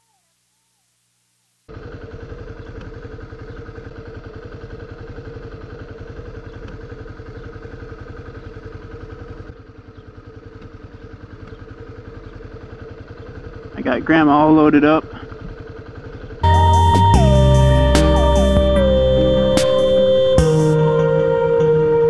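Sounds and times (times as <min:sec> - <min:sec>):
motorcycle engine idling: 0:01.7 - 0:20.9.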